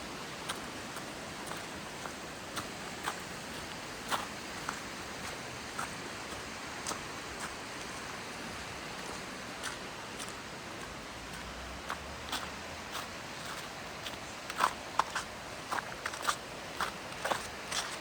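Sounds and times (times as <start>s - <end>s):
steady outdoor hiss: 0.0s - 18.0s
footsteps on outdoor path: 0.4s - 18.0s.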